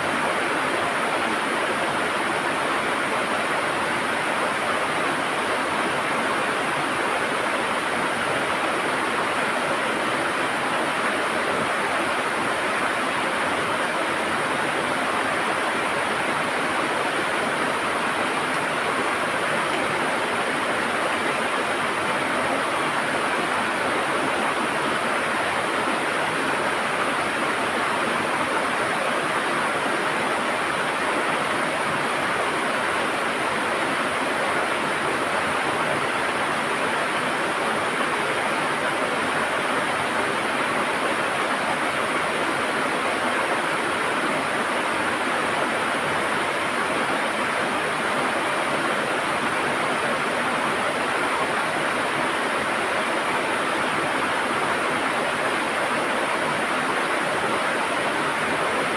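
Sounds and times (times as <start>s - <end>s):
river rushing over stones: 0.0s - 58.9s.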